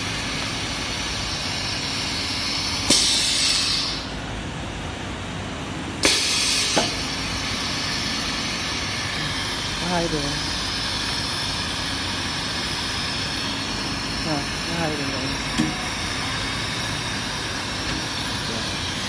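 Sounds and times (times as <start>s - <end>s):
loud air hiss: 0.0s - 4.2s, 6.0s - 19.0s
machine hum: 0.0s - 19.0s.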